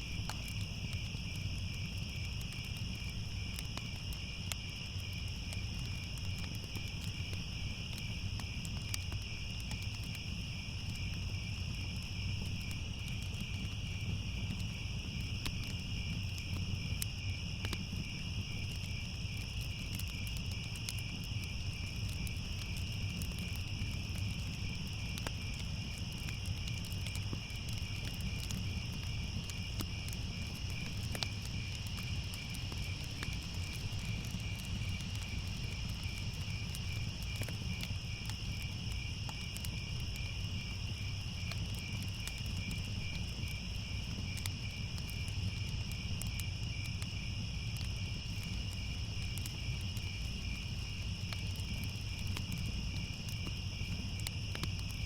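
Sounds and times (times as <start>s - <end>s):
crickets chirping: 0.0s - 55.0s
faint crackles: 0.0s - 55.0s.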